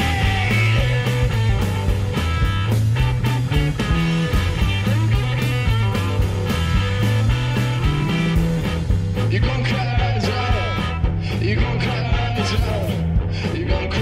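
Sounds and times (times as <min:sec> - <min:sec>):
psychedelic rock band playing: 0:00.0 - 0:14.0.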